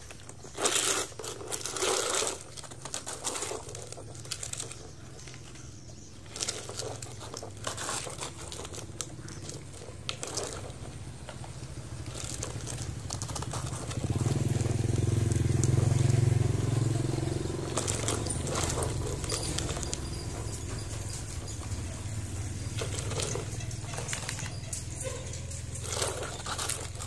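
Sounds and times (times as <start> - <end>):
motor engine humming: 0.0 - 27.0
toy excavator crunching through dirt: 0.0 - 27.0.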